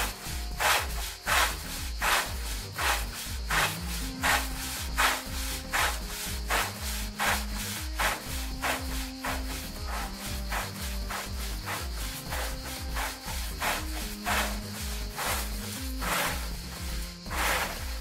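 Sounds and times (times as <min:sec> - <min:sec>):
background music with bass: 0:00.0 - 0:18.0
brush scrubbing charred wood: 0:00.0 - 0:18.0.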